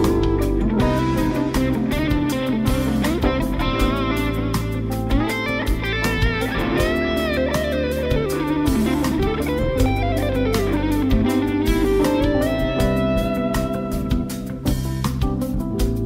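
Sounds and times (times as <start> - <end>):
electric guitar lead melody: 0.0 - 16.0.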